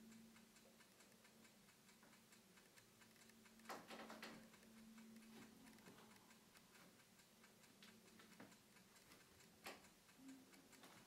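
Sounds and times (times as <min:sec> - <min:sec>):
faint regular ticking: 0:00.0 - 0:11.0.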